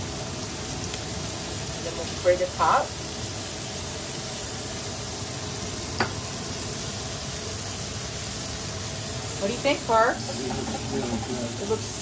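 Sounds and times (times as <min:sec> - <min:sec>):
food sizzling on grill pan: 0:00.0 - 0:12.0.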